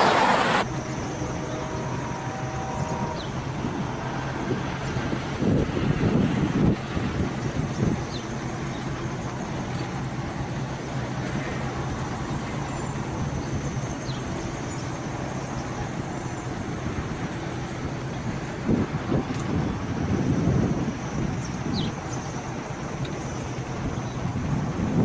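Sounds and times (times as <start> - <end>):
road noise: 0.0 - 25.0
traffic engine hum: 0.0 - 25.0.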